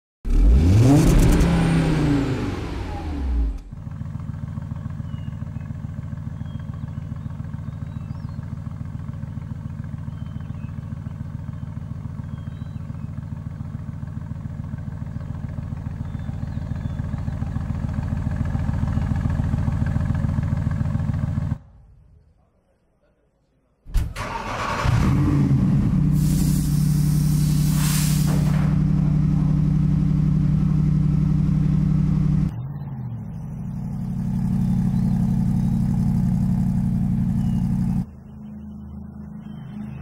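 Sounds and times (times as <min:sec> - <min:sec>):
car engine idling: 0:01.7 - 0:21.8, 0:24.2 - 0:39.6.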